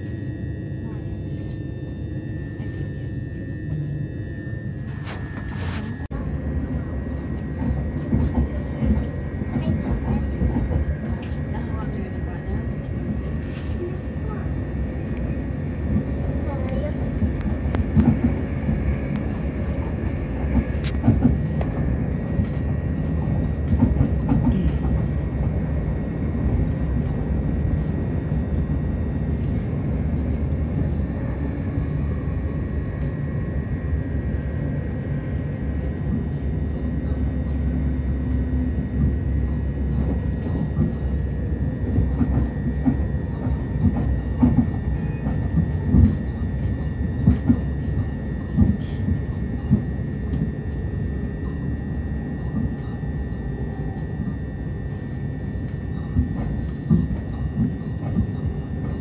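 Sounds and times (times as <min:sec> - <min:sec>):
train wheels rumbling on rail: 0:02.3 - 0:59.0.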